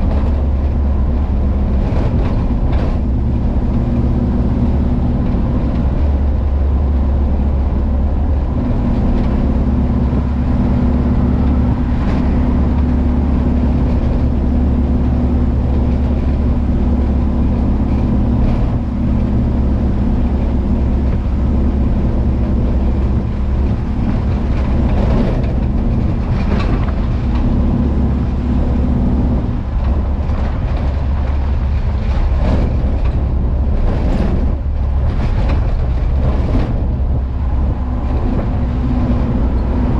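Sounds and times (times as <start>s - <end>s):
road noise: 0.0s - 39.9s
van engine droning: 0.0s - 39.9s.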